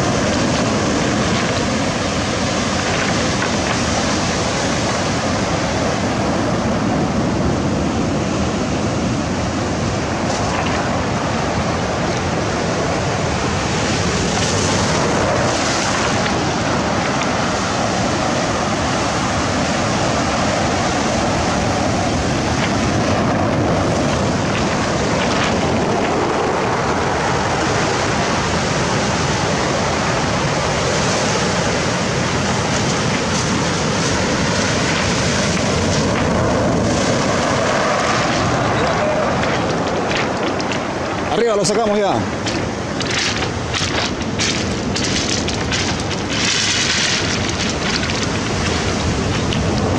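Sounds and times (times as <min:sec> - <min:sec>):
sea surf washing: 0:00.0 - 0:49.9
wind on microphone: 0:00.0 - 0:49.9.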